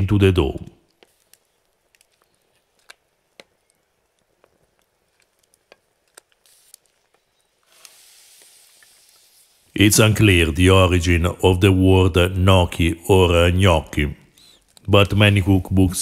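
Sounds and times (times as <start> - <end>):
soft steady hiss: 0.0 - 16.0
wood fire crackling: 0.0 - 16.0.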